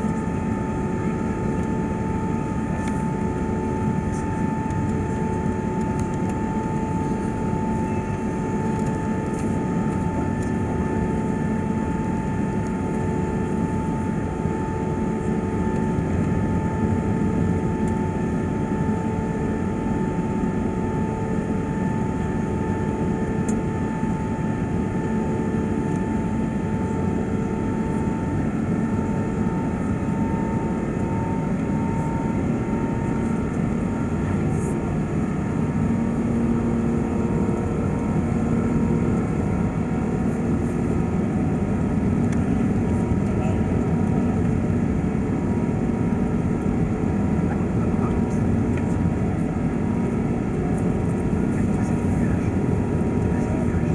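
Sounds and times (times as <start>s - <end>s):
aircraft cabin engine rush: 0.0s - 53.9s.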